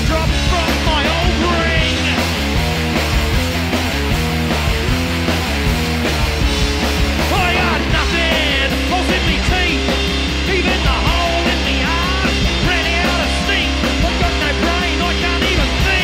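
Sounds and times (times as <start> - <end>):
punk rock band playing: 0.0 - 16.0
rock vocals: 0.0 - 16.0.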